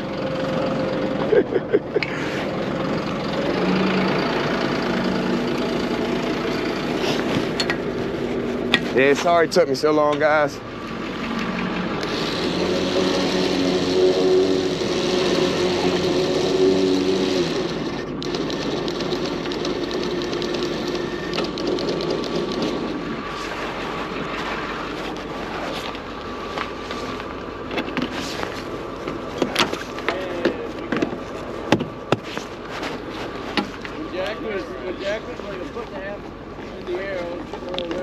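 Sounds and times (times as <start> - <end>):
pitched hum: 0.0 - 38.0
truck engine drone: 0.0 - 38.0.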